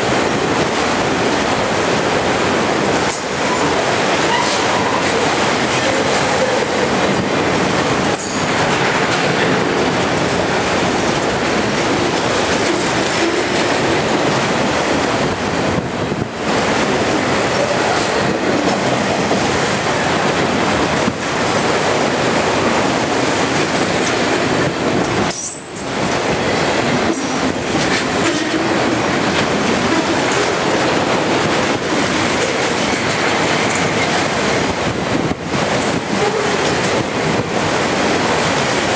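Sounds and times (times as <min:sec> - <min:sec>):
freight train wheels rattling: 0:00.0 - 0:38.9.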